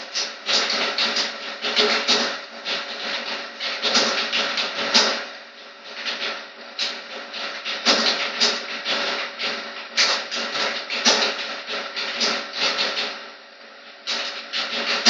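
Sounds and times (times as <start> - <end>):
fast typing on keyboard: 0.0 - 5.2, 5.8 - 13.2, 14.1 - 15.0.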